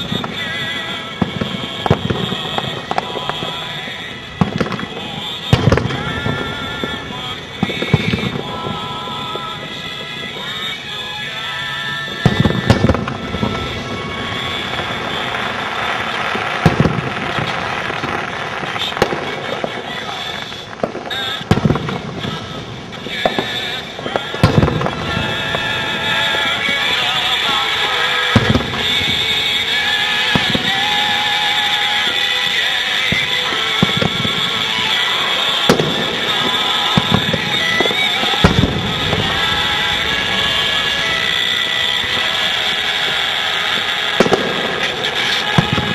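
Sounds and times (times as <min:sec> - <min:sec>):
fireworks booming: 0:00.0 - 0:45.9
fireworks crackling: 0:00.0 - 0:45.9
steady background din: 0:00.0 - 0:45.9.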